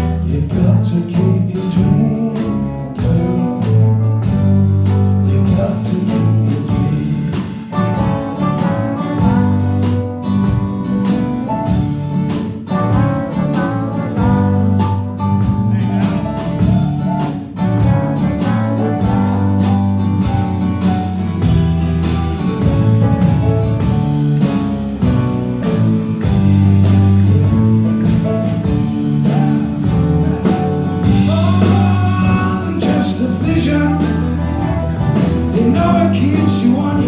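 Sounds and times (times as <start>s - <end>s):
electric guitar: 0.0s - 37.0s
live band playing: 0.0s - 37.0s.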